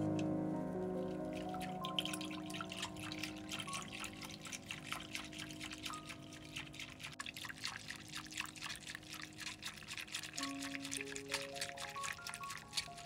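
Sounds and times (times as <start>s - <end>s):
faint background music: 0.0s - 13.0s
liquid pouring and dripping: 0.0s - 13.0s.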